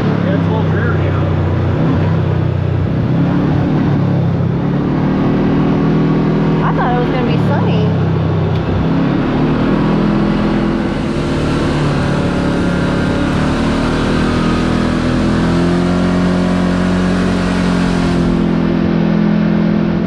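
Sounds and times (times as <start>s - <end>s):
side-by-side engine running: 0.0s - 20.0s.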